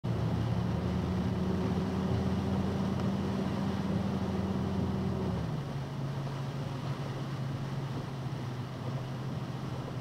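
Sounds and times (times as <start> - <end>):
truck engine drone: 0.0 - 10.0
road noise hiss on wet road: 0.1 - 10.0.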